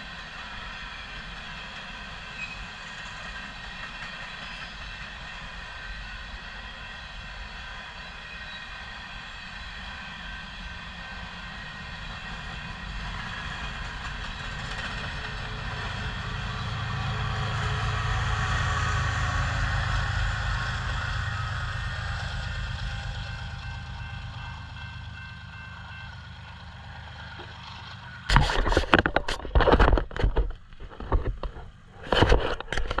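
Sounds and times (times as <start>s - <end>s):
freight train rolling past: 0.0s - 29.2s.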